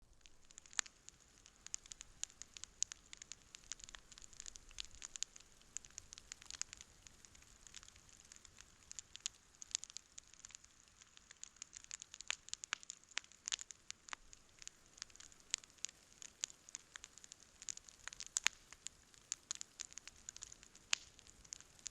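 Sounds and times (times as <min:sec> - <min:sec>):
campfire crackling and popping: 0:00.0 - 0:21.9
faint steady hiss: 0:00.0 - 0:21.9.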